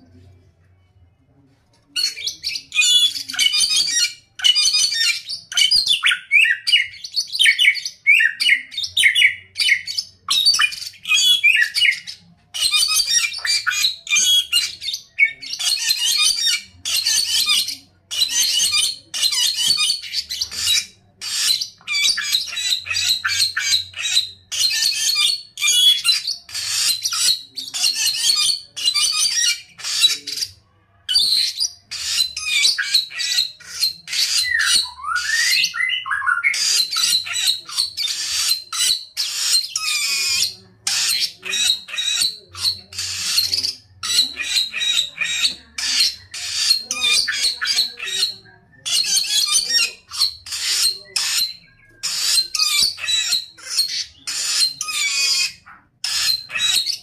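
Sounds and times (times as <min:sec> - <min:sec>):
bird singing: 0:01.9 - 0:57.0.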